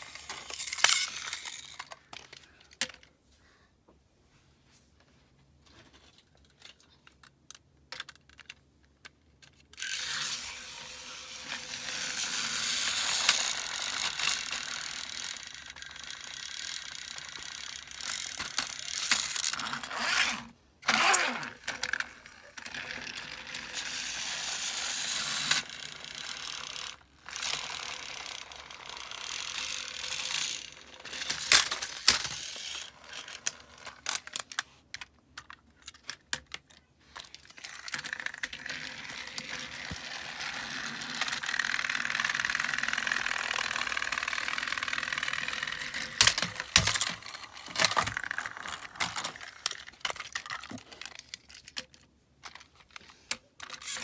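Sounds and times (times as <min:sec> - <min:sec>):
toy train motors whirring: 0:00.0 - 0:03.0, 0:09.7 - 0:34.7, 0:35.4 - 0:54.0.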